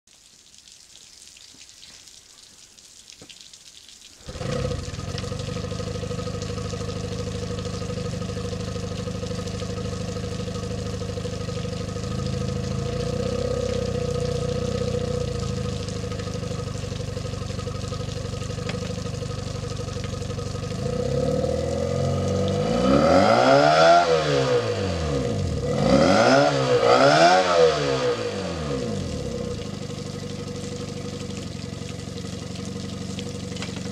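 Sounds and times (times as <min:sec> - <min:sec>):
outboard motor idling: 0:04.3 - 0:33.9
outboard motor revving: 0:04.3 - 0:33.9.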